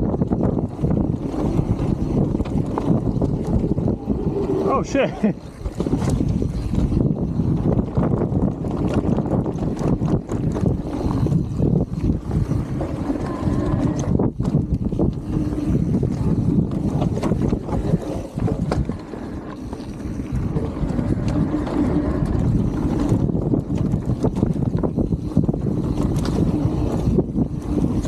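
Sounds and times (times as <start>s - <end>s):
bike clattering over bumps: 0.0s - 28.0s
tyres rumbling on dirt: 0.0s - 28.0s
wind rushing over microphone: 0.0s - 28.0s.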